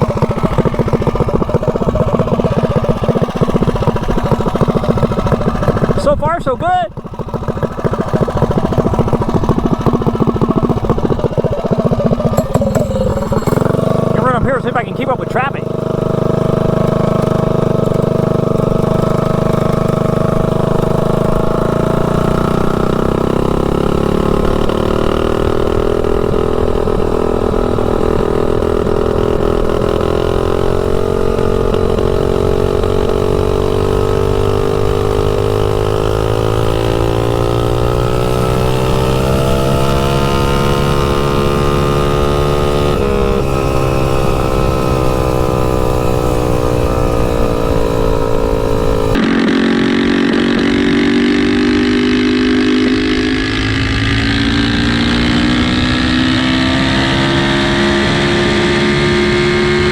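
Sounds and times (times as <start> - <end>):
mini bike engine under load: 0.0 - 59.9.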